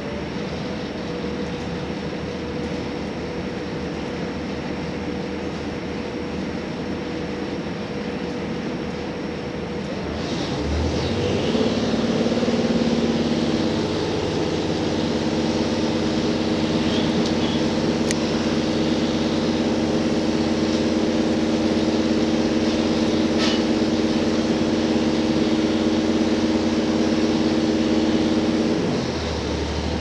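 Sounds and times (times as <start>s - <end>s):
railcar engine drone: 0.0s - 30.0s
rolling rail noise: 0.0s - 30.0s.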